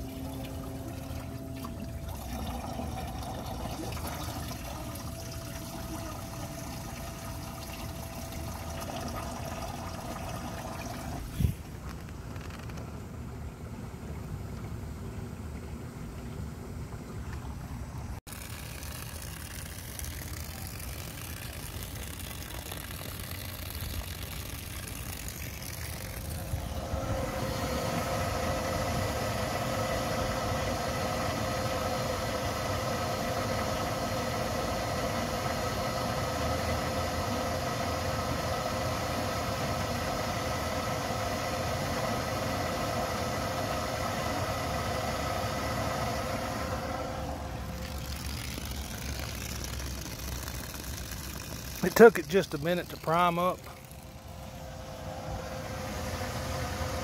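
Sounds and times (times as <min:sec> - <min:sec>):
electric bilge pump humming: 0:00.0 - 0:57.0.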